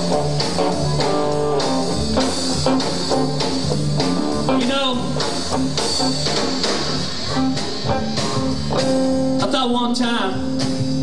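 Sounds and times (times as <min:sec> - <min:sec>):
blues band playing: 0:00.0 - 0:11.0
electric guitar: 0:00.0 - 0:11.0.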